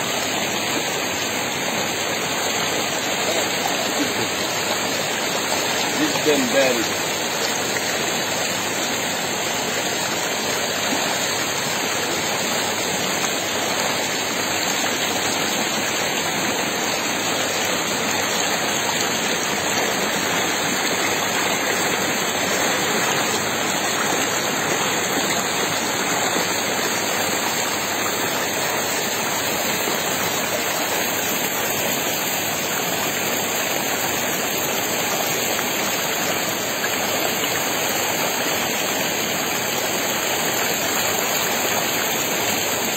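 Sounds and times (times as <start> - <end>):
river water rushing over boulders: 0.0 - 42.9.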